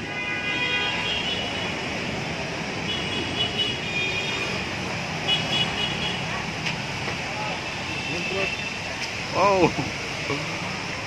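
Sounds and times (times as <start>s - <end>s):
rain: 0.0s - 11.0s
street traffic: 0.0s - 11.0s.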